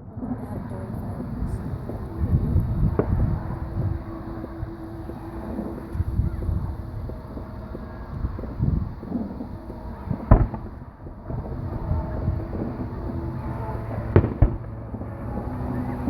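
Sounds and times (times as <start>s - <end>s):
low rumble of bursts: 0.0s - 16.0s
fireworks bangs: 0.1s - 16.0s.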